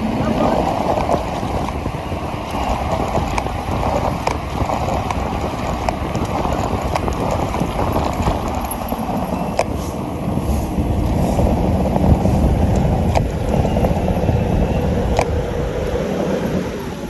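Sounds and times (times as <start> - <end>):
bicycle clicks and rattles: 0.0 - 17.0
tyre and road noise: 0.0 - 17.0
wind rushing over microphone: 0.0 - 17.0.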